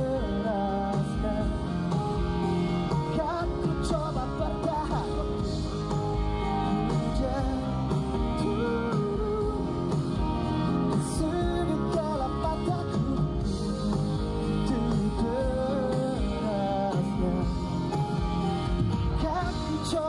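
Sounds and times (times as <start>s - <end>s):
person singing: 0.0s - 18.2s, 18.9s - 20.0s
live pop-rock band: 0.0s - 20.0s.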